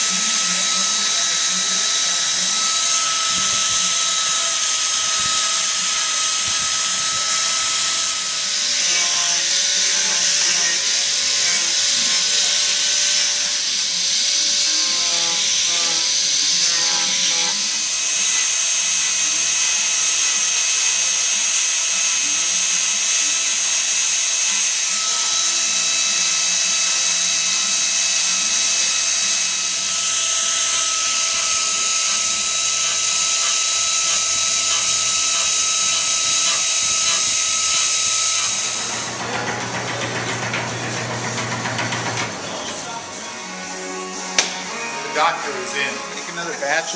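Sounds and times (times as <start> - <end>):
angle grinder on wood: 0.0 - 46.9.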